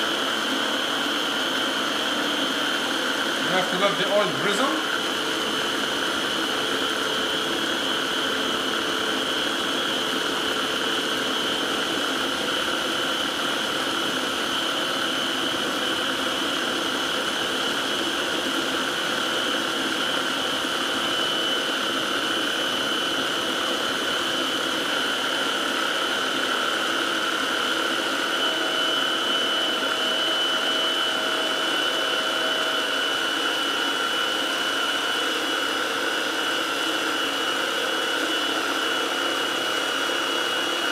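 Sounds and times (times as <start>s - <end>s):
food processor whirring: 0.0s - 40.9s.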